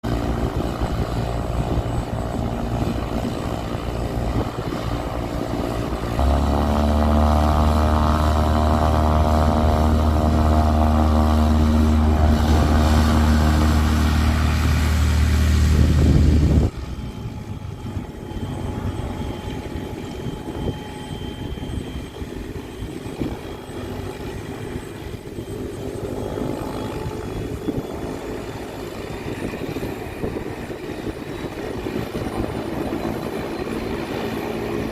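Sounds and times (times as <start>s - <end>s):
helicopter turbine: 0.0s - 34.9s
propeller aircraft engine running: 0.0s - 34.9s.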